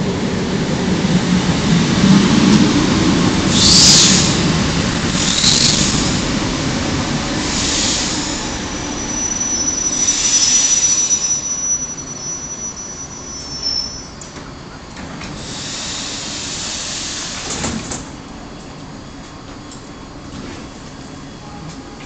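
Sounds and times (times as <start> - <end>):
train rumbling: 0.0 - 22.0
train wheels and brakes squealing: 3.3 - 22.0.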